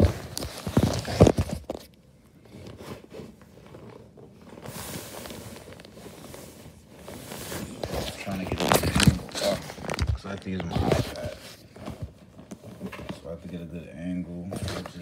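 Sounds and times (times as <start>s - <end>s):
cardboard box rubbing and scraping: 0.0s - 1.8s, 2.5s - 12.8s.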